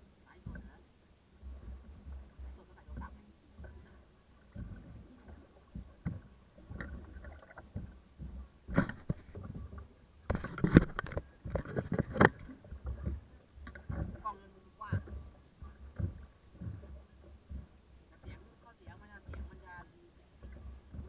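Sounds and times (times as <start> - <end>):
water slapping against boat hull: 0.0 - 21.0
wind rumble on microphone: 0.0 - 21.0.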